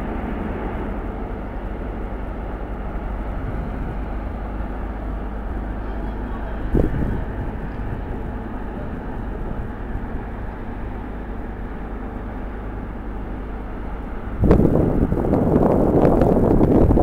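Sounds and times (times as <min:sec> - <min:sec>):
ship diesel engine drone: 0:00.0 - 0:17.0
wind buffeting microphone: 0:00.0 - 0:17.0.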